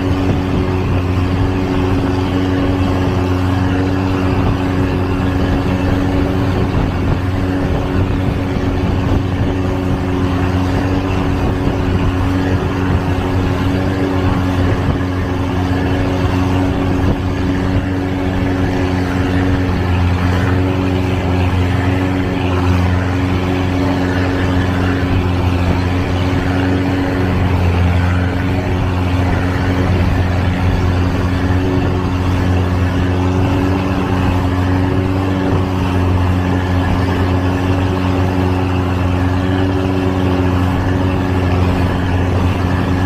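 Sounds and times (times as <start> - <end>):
boat engine running: 0.0 - 43.0
broad rushing noise: 0.0 - 43.0.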